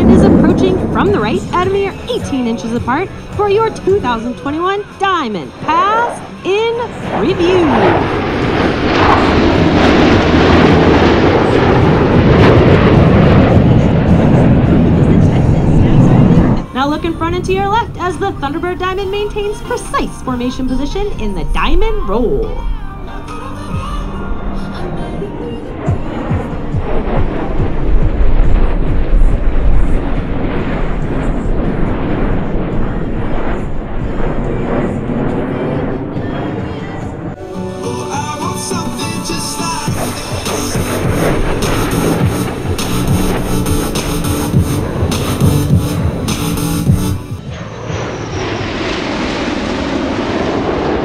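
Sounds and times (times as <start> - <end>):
fighter jets roaring past: 0.0 - 51.0.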